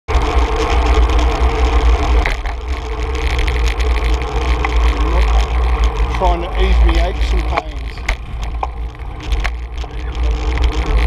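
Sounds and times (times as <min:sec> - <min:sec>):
steady hum: 0:00.1 - 0:11.0
tyre and road noise: 0:00.1 - 0:11.0
wind buffeting camera: 0:00.1 - 0:11.0.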